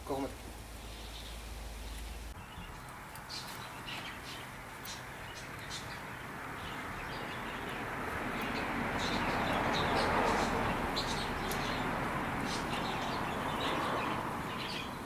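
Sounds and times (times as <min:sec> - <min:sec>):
outdoor background hiss: 0:00.0 - 0:15.0
small birds chirping: 0:00.0 - 0:15.0.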